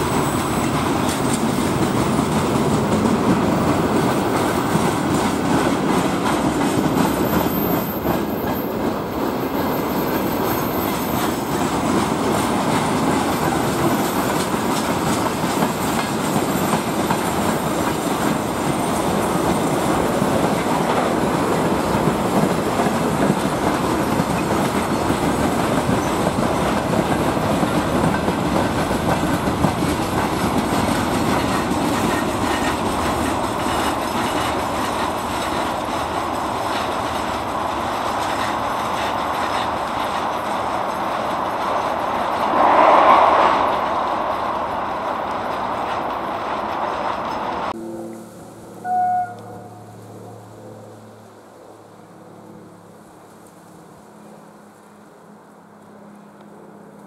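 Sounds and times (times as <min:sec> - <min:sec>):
train wheels rolling on rails: 0:00.0 - 0:47.8.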